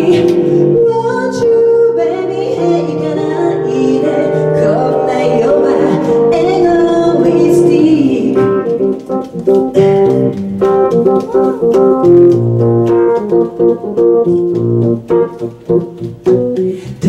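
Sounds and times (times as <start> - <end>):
electronic organ chords: 0.0 - 16.7.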